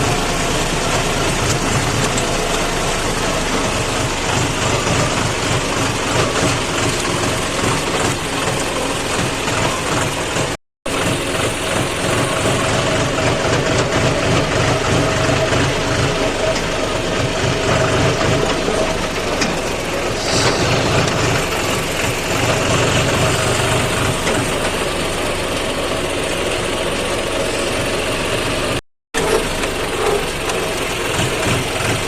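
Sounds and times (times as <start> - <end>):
tractor diesel engine droning: 0.0 - 32.0.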